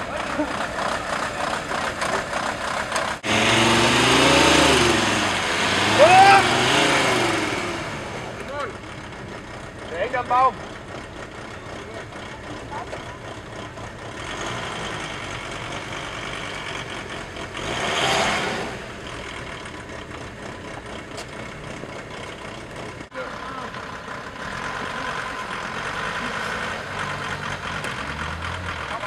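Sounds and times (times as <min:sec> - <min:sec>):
van engine running: 0:00.0 - 0:29.0.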